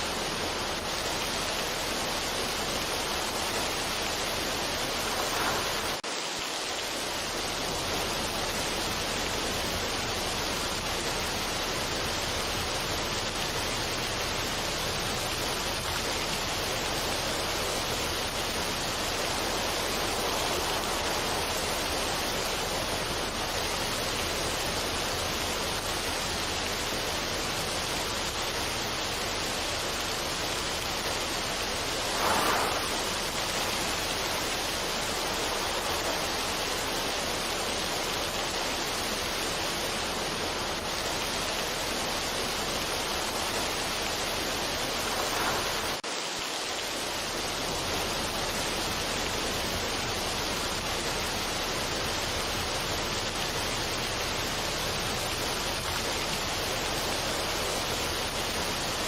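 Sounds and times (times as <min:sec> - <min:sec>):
rushing water or rain: 0:00.0 - 0:59.0.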